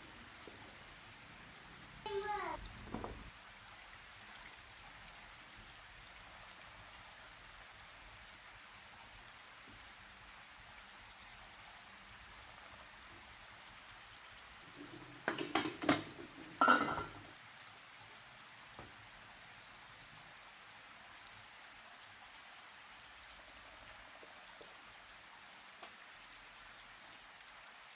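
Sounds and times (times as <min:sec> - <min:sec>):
faint steady hiss: 0:00.0 - 0:27.9.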